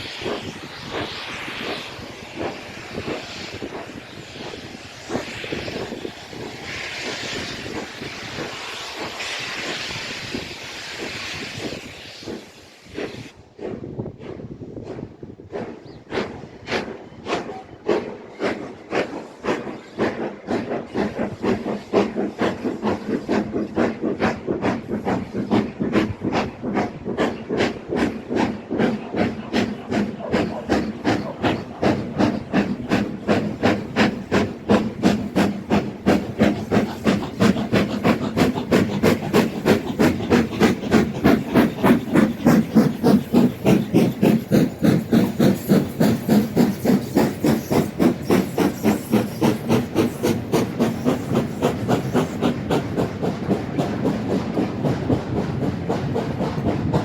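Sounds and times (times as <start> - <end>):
steam locomotive exhaust chuffing: 0.0 - 57.0.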